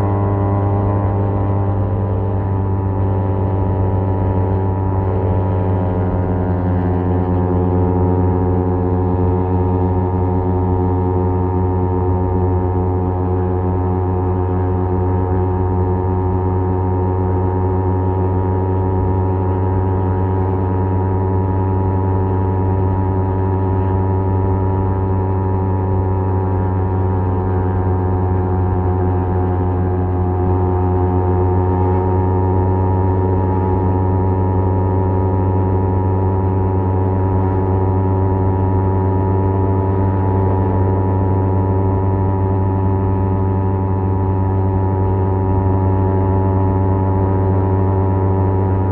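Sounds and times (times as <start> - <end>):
motorcycle engine droning: 0.0 - 48.9.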